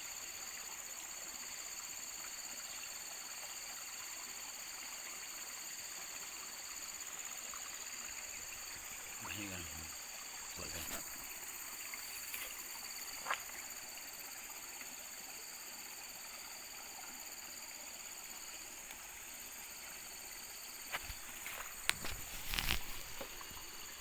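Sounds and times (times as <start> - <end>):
stream water running: 0.0 - 24.0.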